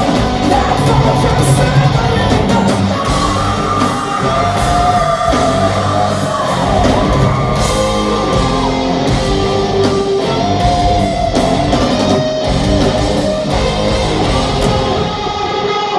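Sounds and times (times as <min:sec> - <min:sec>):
live rock band playing: 0:00.0 - 0:15.9.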